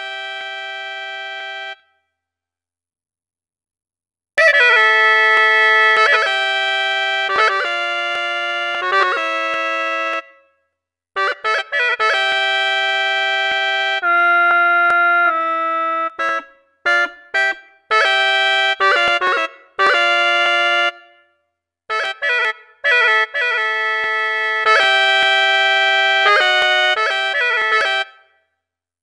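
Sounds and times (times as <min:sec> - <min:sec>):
gourd flute melody: 0:00.0 - 0:02.0, 0:04.4 - 0:10.5, 0:11.2 - 0:28.4.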